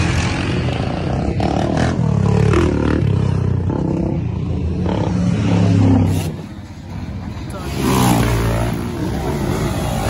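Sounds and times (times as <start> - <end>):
atv and car engines running loudly: 0.0 - 10.0.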